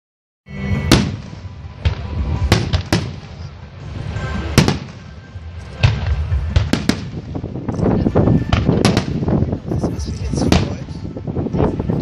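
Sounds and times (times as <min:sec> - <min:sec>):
music: 0:00.5 - 0:12.0
fireworks bursting with bangs: 0:00.7 - 0:11.0.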